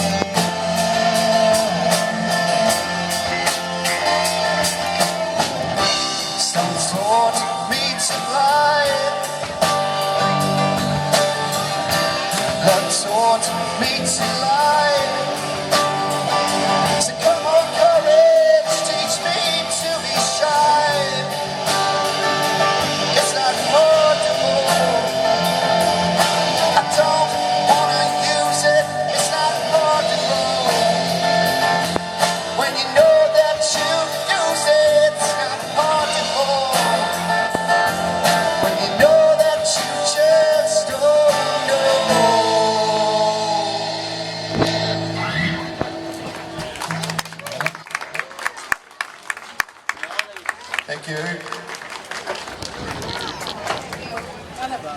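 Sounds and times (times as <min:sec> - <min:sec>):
rock song with vocals: 0:00.0 - 0:47.1.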